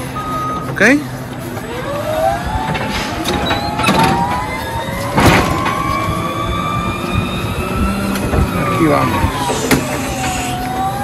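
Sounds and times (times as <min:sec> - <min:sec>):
forklift motor whine: 0:00.0 - 0:11.0.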